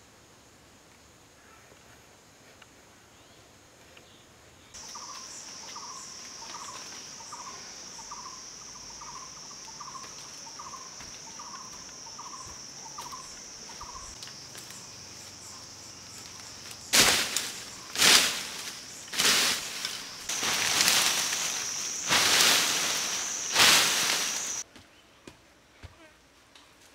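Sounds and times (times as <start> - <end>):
insects droning: 0.0 - 24.7.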